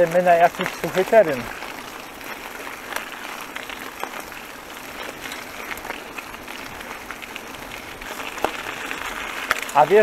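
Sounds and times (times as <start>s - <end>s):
bicycle tyres rolling on wet gravel: 0.0s - 10.0s.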